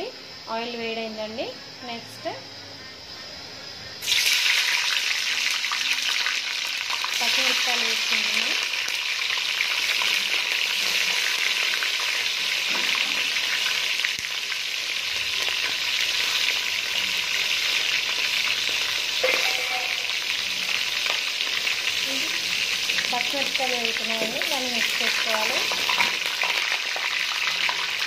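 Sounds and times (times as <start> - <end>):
chillies sizzling in hot oil: 4.0 - 28.0.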